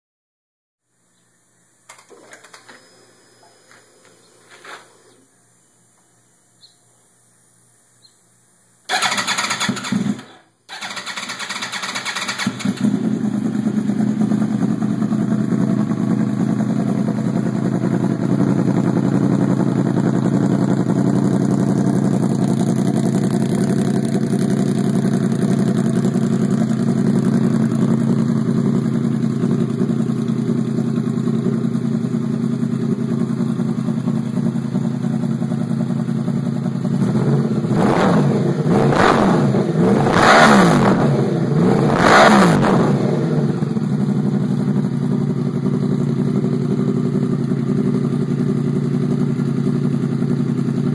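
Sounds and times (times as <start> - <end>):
motorcycle engine starting and idling: 1.8 - 5.9, 8.8 - 50.9.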